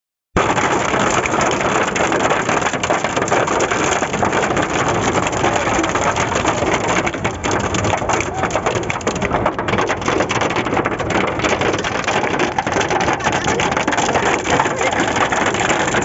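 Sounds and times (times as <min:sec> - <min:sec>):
hail and heavy rain clattering: 0:00.4 - 0:16.0.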